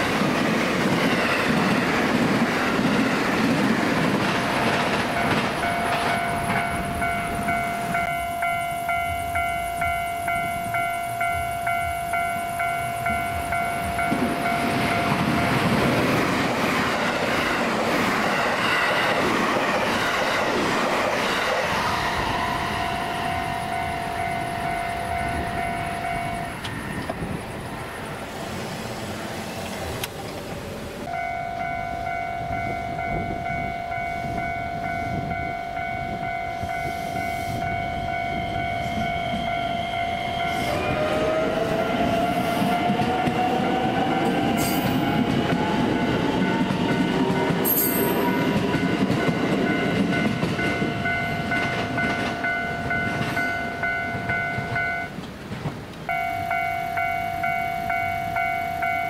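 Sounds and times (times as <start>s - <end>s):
level-crossing warning bell: 0.0s - 28.3s, 31.0s - 55.3s, 56.0s - 59.0s
electric train inverter whine: 0.0s - 59.0s.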